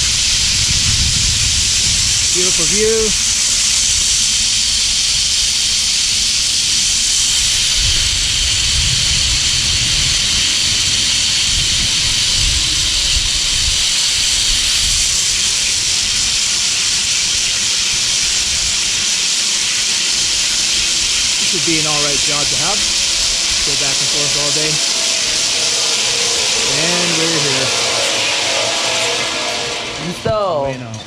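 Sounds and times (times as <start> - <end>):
wind buffeting microphone: 0.0 - 5.6, 6.9 - 16.4, 20.6 - 30.8
wheels hissing along steel cable: 0.0 - 31.0.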